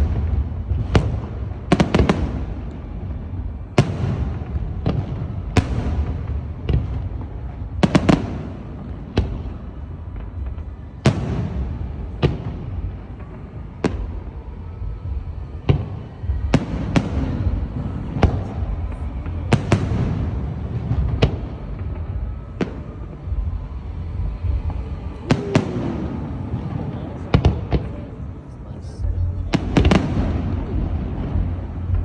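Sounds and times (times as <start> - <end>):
continuous low rumble: 0.0 - 32.0.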